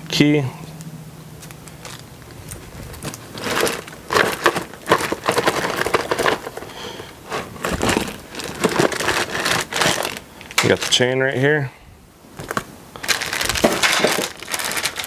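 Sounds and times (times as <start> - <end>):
packaging crackling and tearing: 1.4 - 11.2, 12.4 - 15.0.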